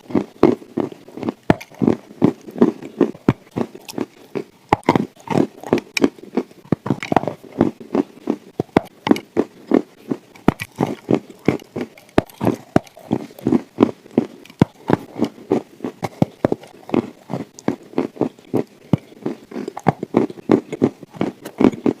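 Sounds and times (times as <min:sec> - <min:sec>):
chalk crunching while chewed: 0:00.0 - 0:22.0.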